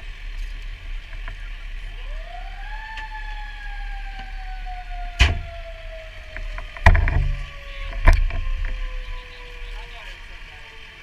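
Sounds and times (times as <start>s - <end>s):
low steady rumble: 0.0s - 11.0s
motor whine winding down: 1.5s - 11.0s.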